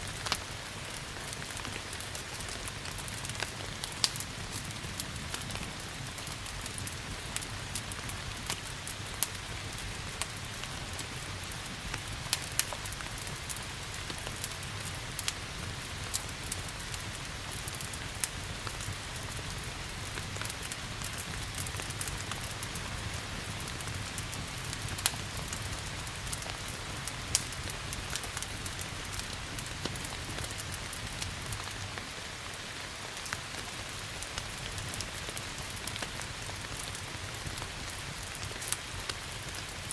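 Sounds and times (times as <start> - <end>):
fireplace fire crackling: 0.0 - 39.9
steady rain: 0.0 - 39.9.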